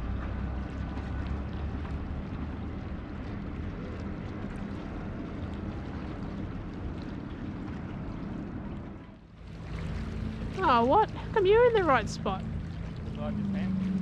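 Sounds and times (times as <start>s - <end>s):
rippling water: 0.0s - 14.0s.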